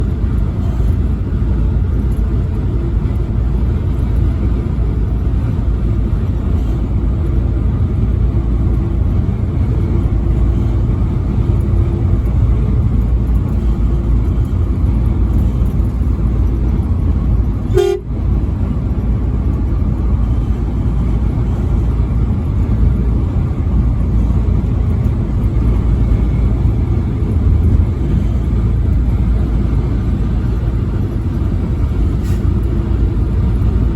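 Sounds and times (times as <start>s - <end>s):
vehicle road and engine rumble: 0.0s - 33.9s.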